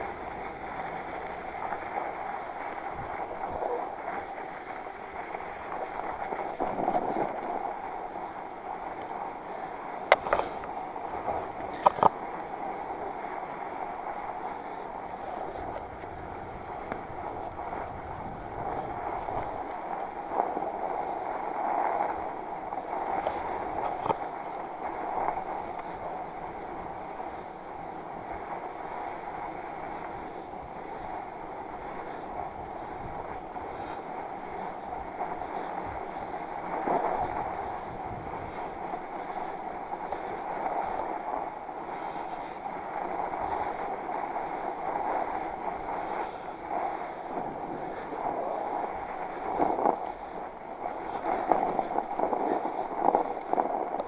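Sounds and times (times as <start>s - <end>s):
bike tires rolling on snow: 0.0s - 54.0s
wind on microphone: 0.0s - 54.0s.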